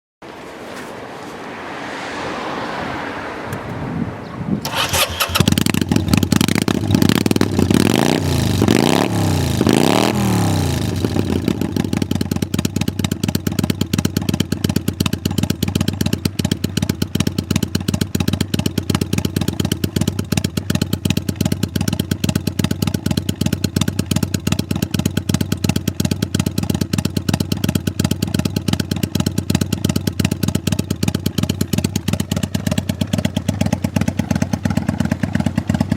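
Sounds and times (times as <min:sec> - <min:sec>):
motorcycle engine revving and idling: 0:03.5 - 0:35.9.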